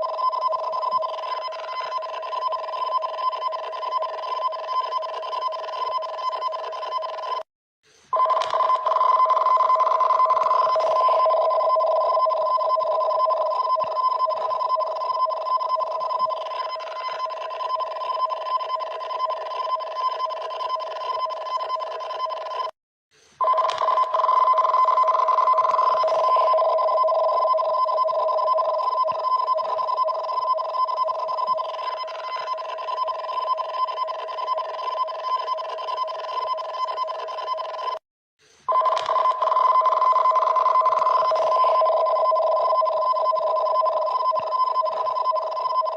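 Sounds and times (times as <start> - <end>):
buzzing warble alarm signal: 0.0 - 7.4, 8.1 - 22.7, 23.4 - 38.0, 38.7 - 45.9.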